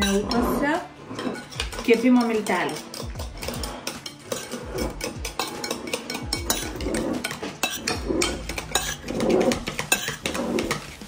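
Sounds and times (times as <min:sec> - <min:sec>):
metal spoon scraping bowl: 0:00.0 - 0:11.0.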